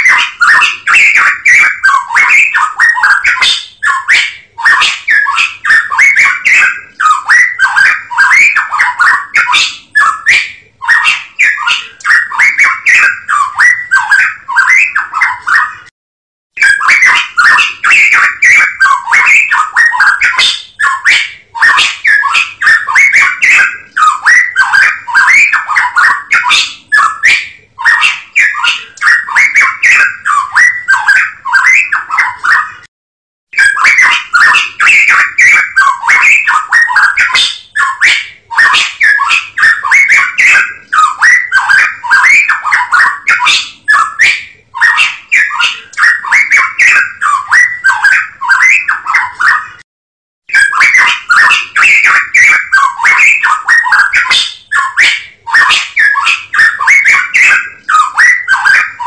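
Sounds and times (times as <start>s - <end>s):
bird song fast chatter: 0.0s - 15.9s, 16.6s - 32.9s, 33.6s - 49.8s, 50.5s - 59.0s.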